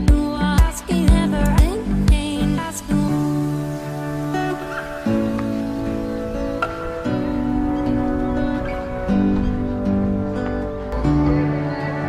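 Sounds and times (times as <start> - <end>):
plucked string chords: 0.0 - 12.0.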